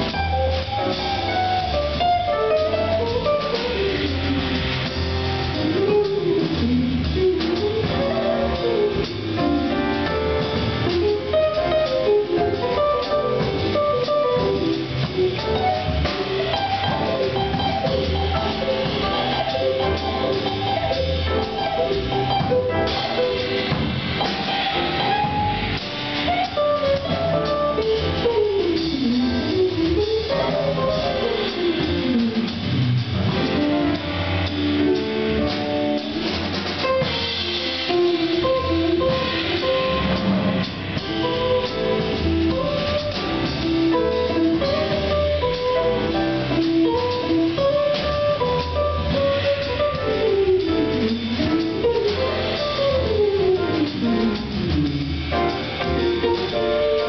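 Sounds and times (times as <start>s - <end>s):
bass: 0.0s - 57.0s
drum kit: 0.0s - 57.0s
piano: 0.0s - 57.0s.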